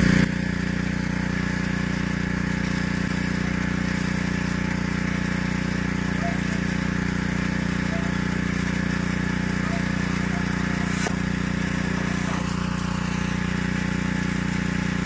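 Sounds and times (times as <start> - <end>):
small engine running steadily: 0.0 - 15.0.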